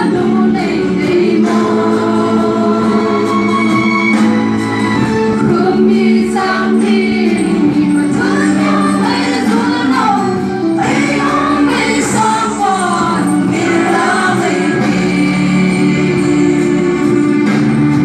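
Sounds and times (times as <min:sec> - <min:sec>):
women singing into microphones: 0:00.0 - 0:04.1, 0:05.4 - 0:17.7.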